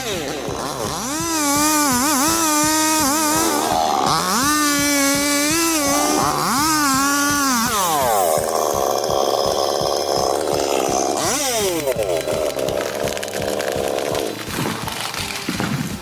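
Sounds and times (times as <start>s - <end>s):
chainsaw cutting into wood: 0.0s - 16.0s
chainsaw revving: 0.0s - 16.0s.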